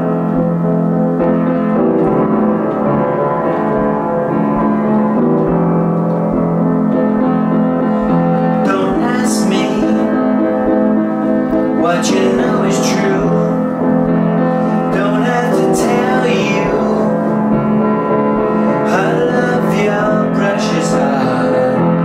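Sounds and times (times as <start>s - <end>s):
upright piano playing slowly: 0.0s - 22.0s.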